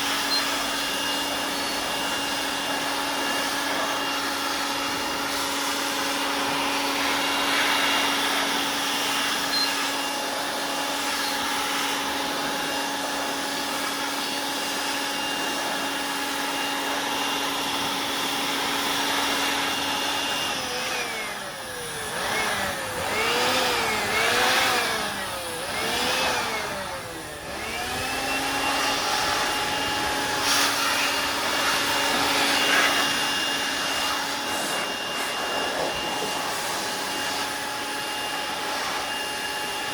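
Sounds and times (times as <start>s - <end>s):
electric air blower whining: 0.0s - 39.9s.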